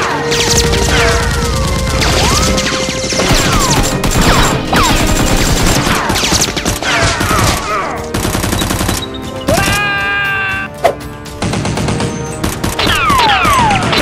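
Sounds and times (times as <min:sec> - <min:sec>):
rapid gunfire: 0:00.3 - 0:09.1, 0:11.4 - 0:14.0.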